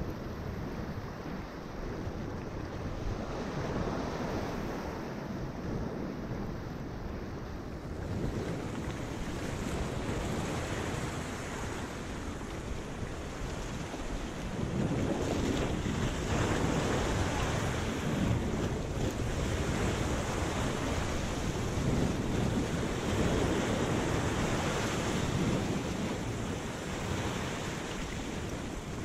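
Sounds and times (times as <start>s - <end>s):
sea surf washing over rocks: 0.0s - 29.0s
wind buffeting microphone: 0.0s - 29.0s.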